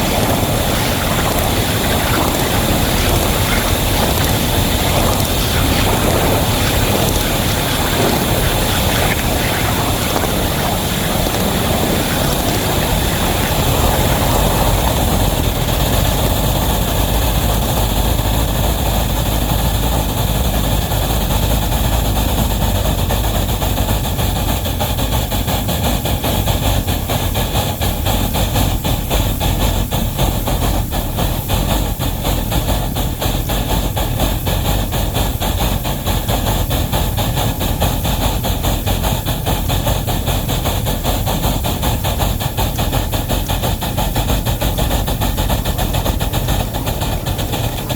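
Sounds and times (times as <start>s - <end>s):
locomotive rumble and clatter: 0.0s - 47.9s.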